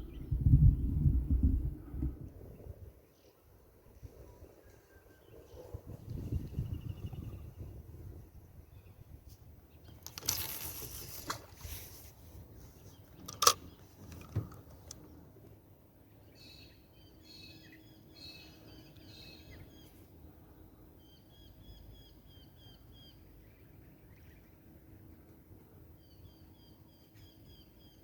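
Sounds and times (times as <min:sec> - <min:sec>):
quiet river: 0:00.0 - 0:28.0.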